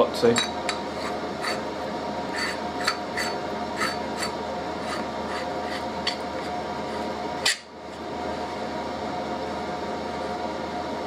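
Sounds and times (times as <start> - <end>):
steady droning hum: 0.0 - 11.0.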